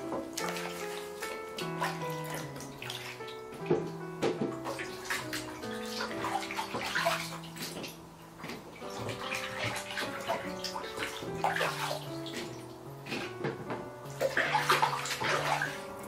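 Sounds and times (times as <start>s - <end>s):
soft background music: 0.0s - 16.0s
water splashing in basin: 0.3s - 16.0s.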